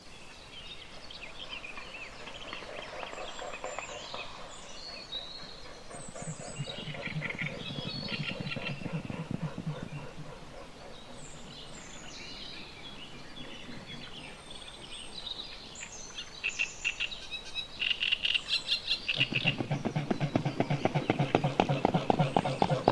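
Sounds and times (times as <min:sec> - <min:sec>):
songbirds chirping: 0:00.0 - 0:22.9.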